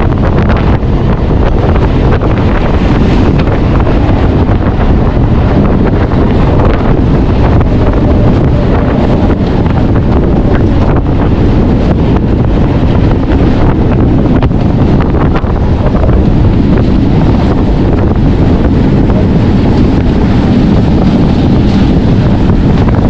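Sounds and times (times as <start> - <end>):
passenger train running: 0.0 - 23.0
wind buffeting microphone: 0.0 - 23.0.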